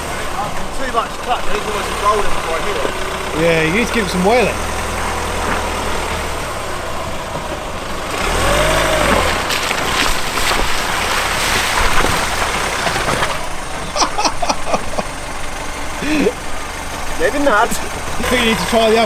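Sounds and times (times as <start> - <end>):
car engine revving under load: 0.0 - 19.0.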